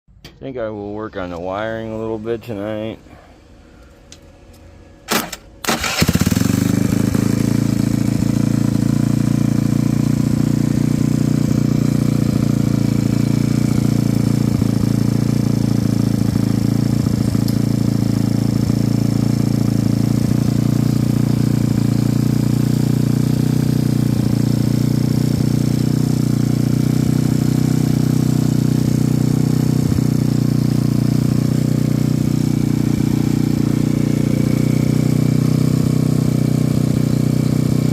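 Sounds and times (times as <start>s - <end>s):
vehicle engine cranking and idling: 3.8s - 37.9s.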